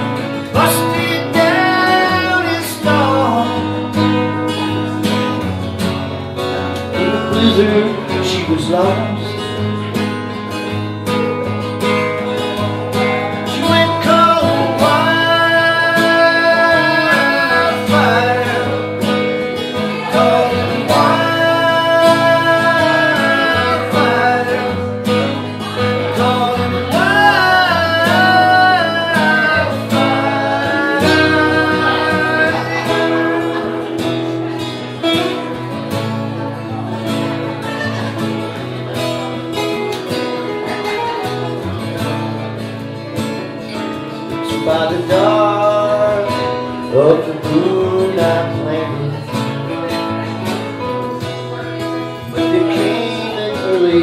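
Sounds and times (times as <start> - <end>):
acoustic guitars strumming: 0.0 - 54.0
held guitar melody notes: 0.0 - 54.0.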